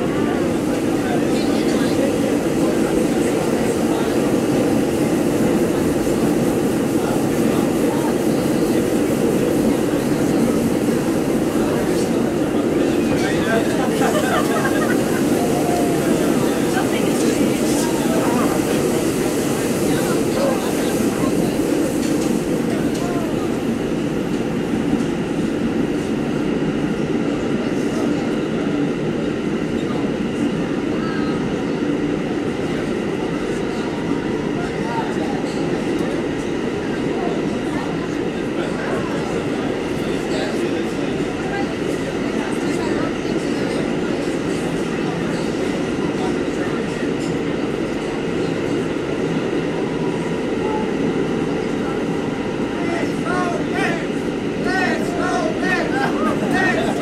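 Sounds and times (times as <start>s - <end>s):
subway train wheels rumbling: 0.0s - 57.0s.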